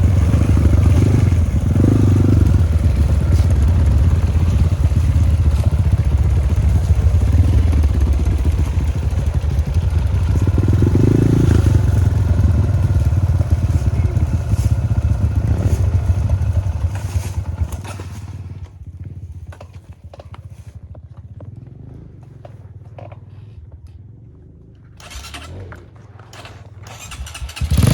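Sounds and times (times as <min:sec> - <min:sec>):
dirt bike engine running: 0:00.0 - 0:27.9.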